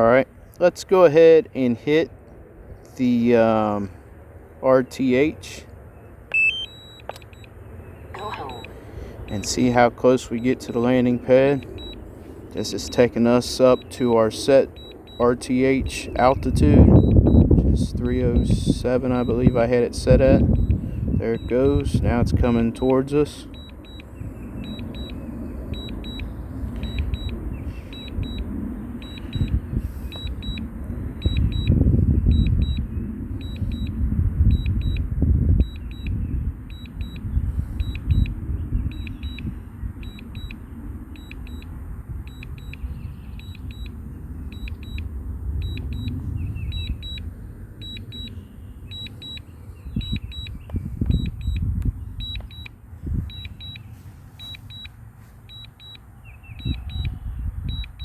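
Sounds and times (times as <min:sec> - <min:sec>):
remote controller double beeps: 0:06.3 - 0:07.5, 0:08.2 - 0:11.0, 0:11.6 - 0:12.0, 0:12.7 - 0:14.1, 0:14.7 - 0:15.4, 0:16.0 - 0:17.6, 0:18.3 - 0:40.6, 0:41.2 - 0:41.7, 0:42.3 - 0:58.0
wind rumble on microphone: 0:06.3 - 0:54.9, 0:55.5 - 0:58.0.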